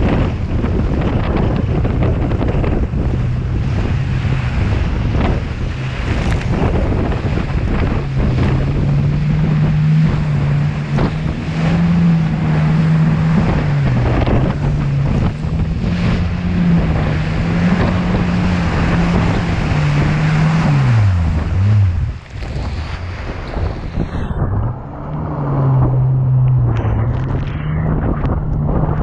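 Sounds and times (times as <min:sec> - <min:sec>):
hull slapping over water: 0:00.0 - 0:29.0
watercraft engine running: 0:00.0 - 0:29.0
wind noise on microphone: 0:00.0 - 0:29.0.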